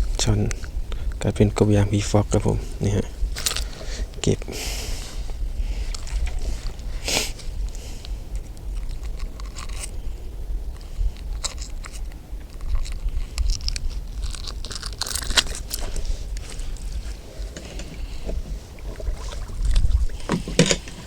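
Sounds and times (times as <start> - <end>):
wind rumbling on microphone: 0.0 - 21.0
fishing gear clicking: 3.2 - 4.5, 5.1 - 21.0.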